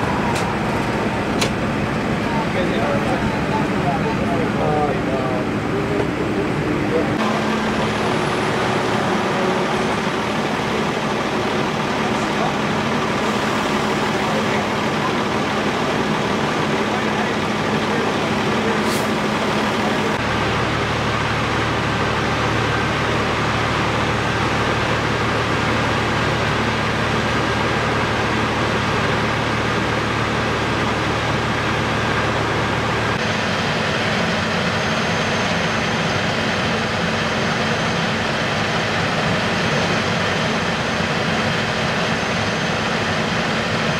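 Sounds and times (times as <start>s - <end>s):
fire engines idling: 0.0s - 43.9s
road noise: 0.0s - 43.9s.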